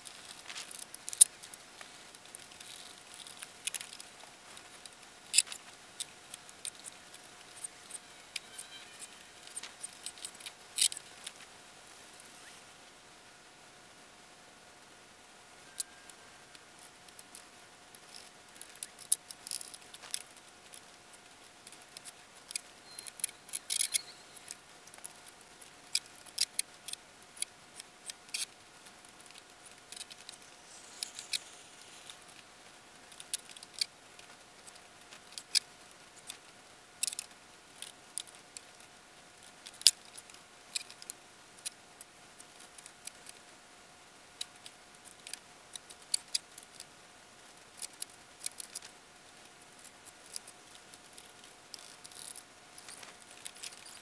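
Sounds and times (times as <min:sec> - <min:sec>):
faint steady whine: 0:00.0 - 0:54.0.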